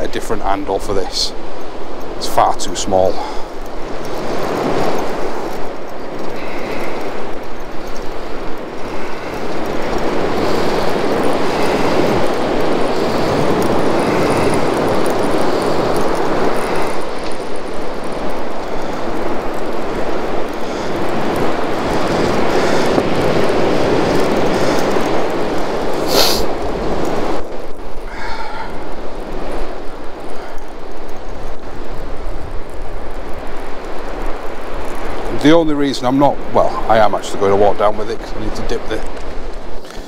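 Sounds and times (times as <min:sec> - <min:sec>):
waves breaking on beach: 0:00.0 - 0:40.0.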